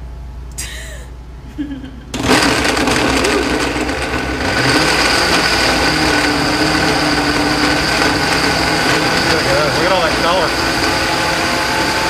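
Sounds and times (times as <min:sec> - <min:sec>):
blender motor whining: 0:02.1 - 0:12.0
soup churning in blender: 0:02.1 - 0:12.0.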